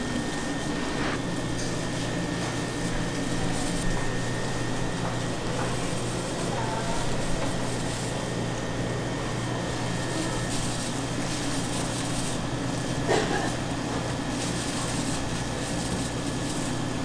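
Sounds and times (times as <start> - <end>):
machine hum and hiss: 0.0 - 17.0.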